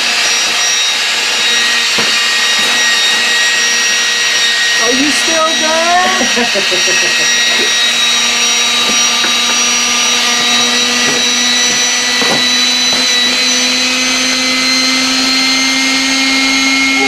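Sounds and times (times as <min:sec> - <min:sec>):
air compressor whine: 0:00.0 - 0:17.0.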